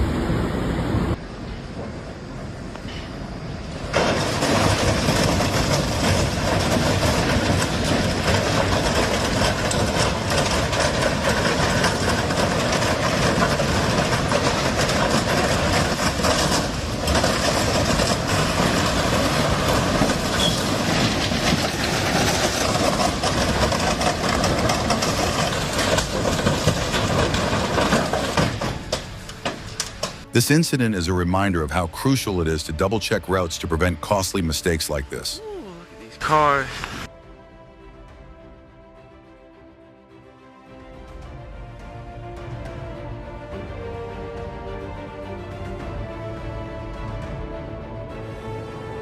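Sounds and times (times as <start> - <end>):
train rumbling on tracks: 0.0 - 49.0.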